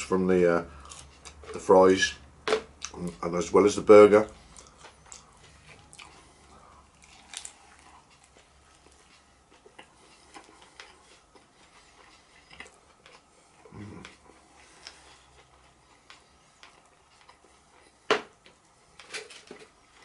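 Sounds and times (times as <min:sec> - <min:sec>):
person chewing: 0:00.7 - 0:01.7, 0:02.8 - 0:03.2, 0:04.4 - 0:19.1.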